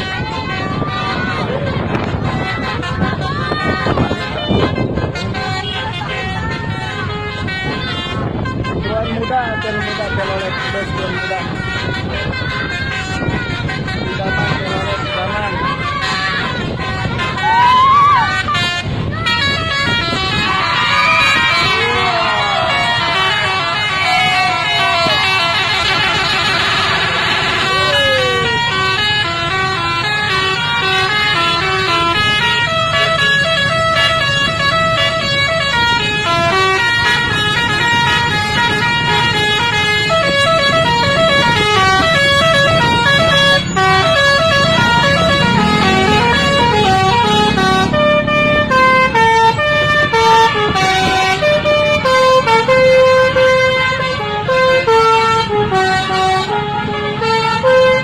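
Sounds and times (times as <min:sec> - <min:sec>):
low rumble of bus: 0:00.0 - 0:58.0
multi-tone bus horn melody: 0:00.0 - 0:58.0.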